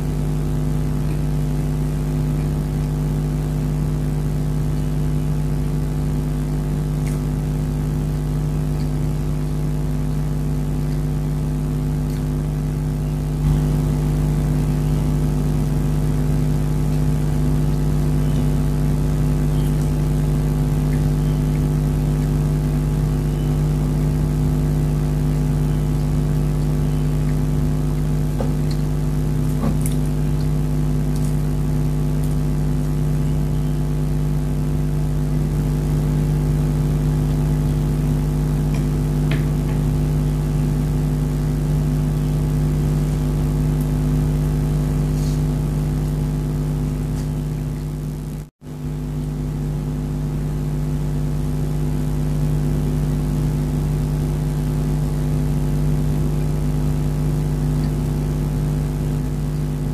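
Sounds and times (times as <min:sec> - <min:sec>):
motor droning: 0:00.0 - 0:59.9.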